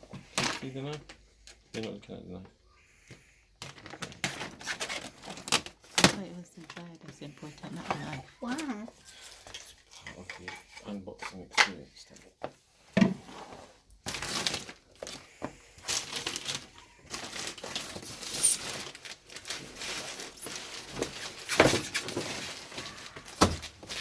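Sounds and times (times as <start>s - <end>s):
wrapping crinkling and rustling: 0.0s - 2.9s, 3.6s - 10.8s, 13.3s - 24.0s.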